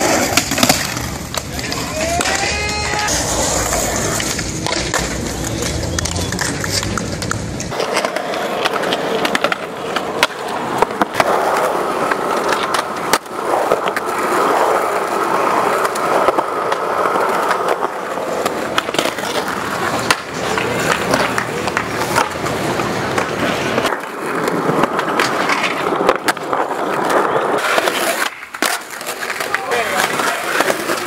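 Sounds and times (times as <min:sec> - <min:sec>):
skateboard clacking on ground: 0:00.0 - 0:31.0
skateboard wheels rolling on concrete: 0:00.0 - 0:31.0.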